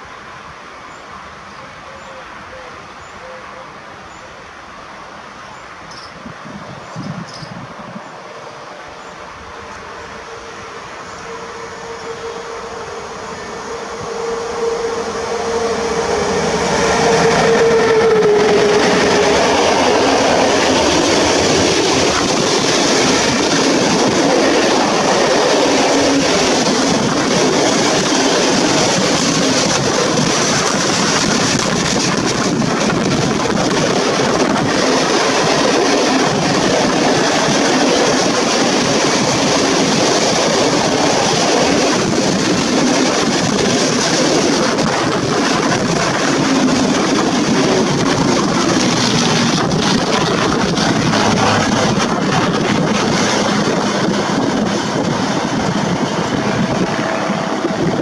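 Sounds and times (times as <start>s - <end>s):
freight train wheels rumbling: 4.8s - 58.0s.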